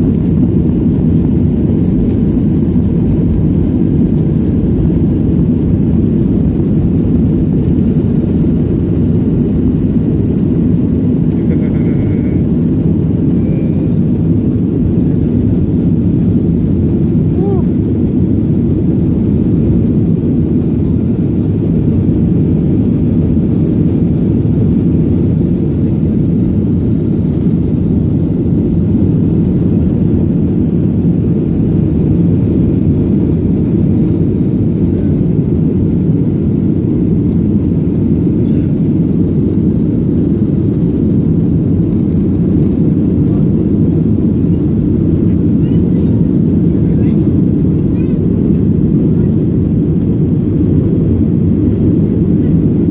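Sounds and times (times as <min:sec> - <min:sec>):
jet airliner engines rumbling: 0:00.0 - 0:52.9.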